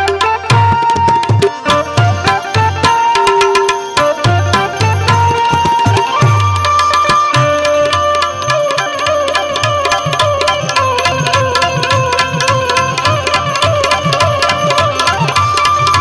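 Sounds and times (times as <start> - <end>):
hand drums beat: 0.0 - 16.0
harmonium melody: 0.0 - 16.0
sharp percussion strikes: 0.0 - 16.0.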